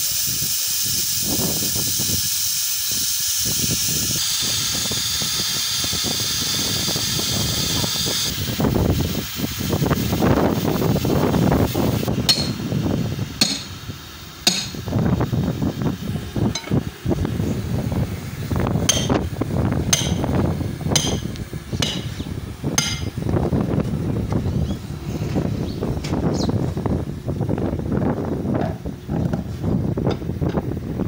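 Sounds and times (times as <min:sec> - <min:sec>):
air hissing out of tyre: 0:00.0 - 0:27.0.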